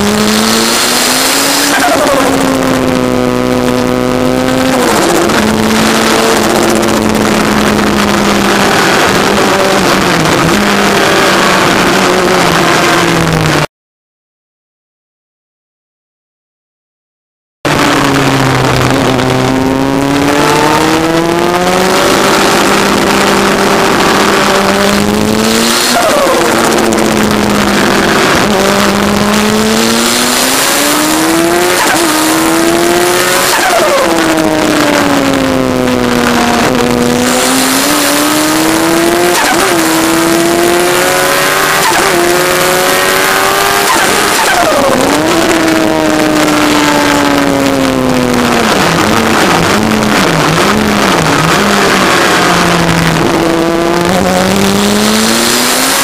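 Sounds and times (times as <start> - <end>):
motorcycle engine revving: 0.0 - 13.7, 17.6 - 56.0.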